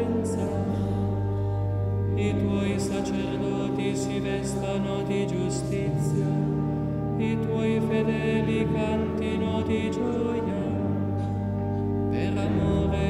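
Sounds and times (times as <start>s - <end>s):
sustained low drone: 0.0s - 13.0s
voices chanting long held notes: 0.0s - 13.0s.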